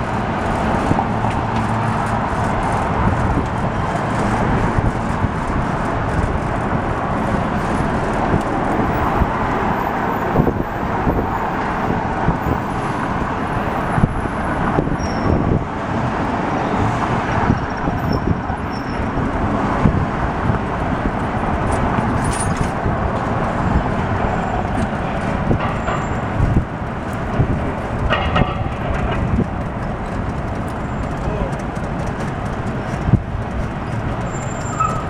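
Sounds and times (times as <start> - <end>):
passing cars: 0.0 - 35.0.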